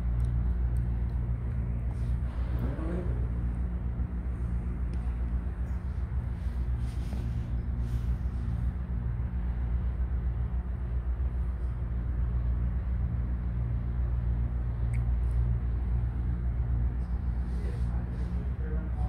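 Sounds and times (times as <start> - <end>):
low mechanical hum: 0.0 - 19.0
low rumble: 0.0 - 19.0.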